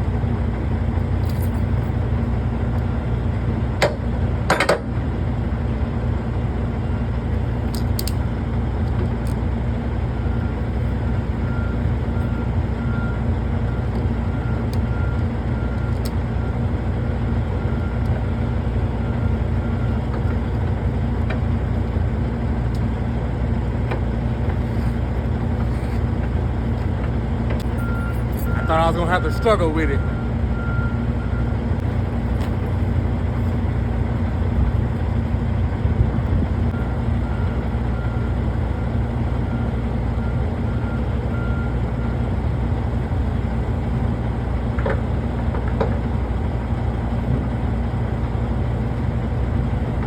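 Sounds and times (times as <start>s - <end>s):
truck engine idling: 0.0s - 50.0s.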